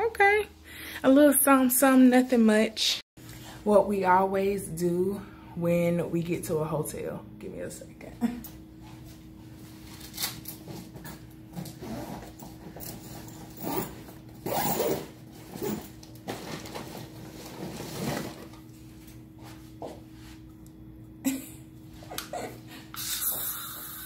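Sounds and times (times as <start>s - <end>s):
steady low hum: 3.2s - 24.0s.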